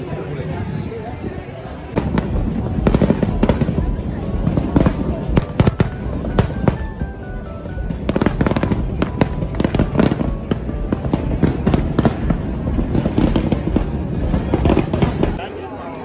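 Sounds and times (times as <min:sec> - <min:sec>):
fireworks bangs and crackles: 0:00.0 - 0:15.5
music: 0:00.1 - 0:15.4.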